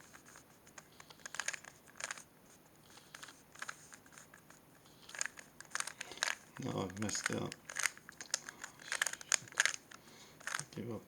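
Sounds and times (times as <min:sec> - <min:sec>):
plastic puzzle cube clicking: 0:00.0 - 0:02.3, 0:02.9 - 0:10.8.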